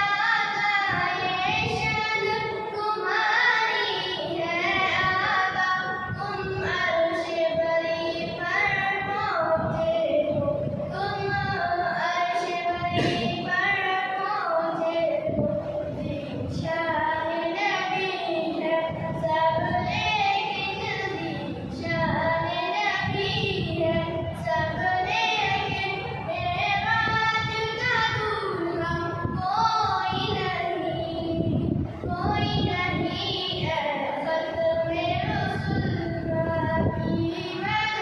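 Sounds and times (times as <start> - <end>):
high voice singing devotional song: 0.0 - 38.0.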